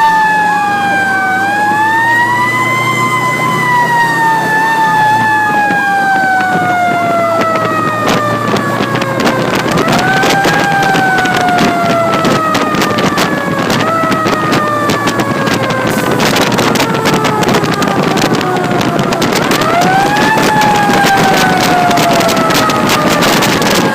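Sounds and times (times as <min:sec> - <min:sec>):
fire engine siren wailing: 0:00.0 - 0:23.9.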